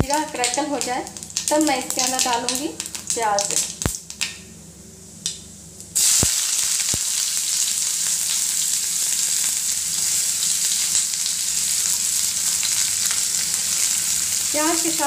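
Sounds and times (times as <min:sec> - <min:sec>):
onion sizzling in hot oil: 0:00.0 - 0:04.3, 0:05.9 - 0:15.0.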